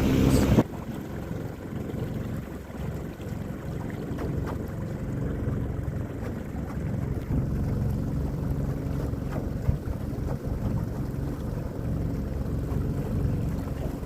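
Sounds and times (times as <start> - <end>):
outboard motor running: 0.0 - 14.0
water around boat: 0.0 - 14.0
wind buffeting microphone: 0.0 - 14.0.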